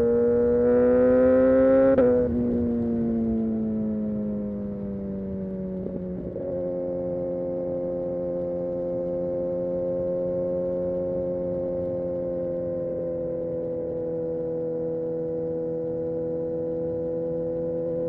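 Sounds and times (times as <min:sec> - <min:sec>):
motorcycle engine decelerating: 0:00.0 - 0:18.0.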